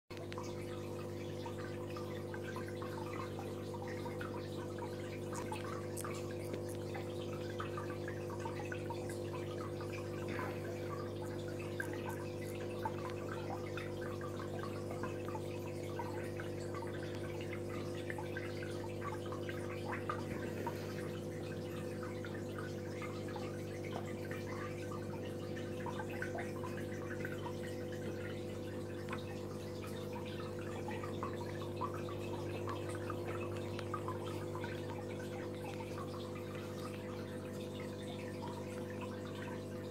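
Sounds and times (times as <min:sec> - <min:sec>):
aquarium water trickling and dripping: 0:00.0 - 0:39.9
low electric pump hum: 0:00.1 - 0:39.9.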